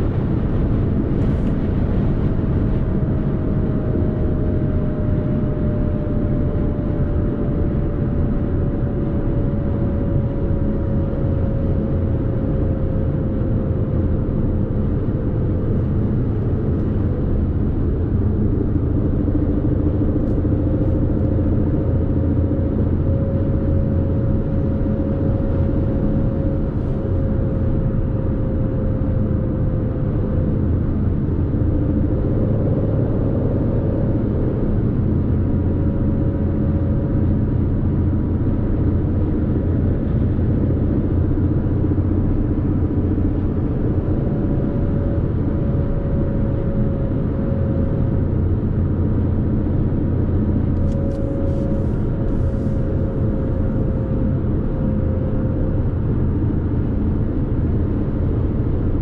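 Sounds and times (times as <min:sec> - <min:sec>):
car engine cruising: 0:00.0 - 0:58.8
faint hum sinking in pitch: 0:00.0 - 0:59.0
road and tyre rumble: 0:00.0 - 0:59.0.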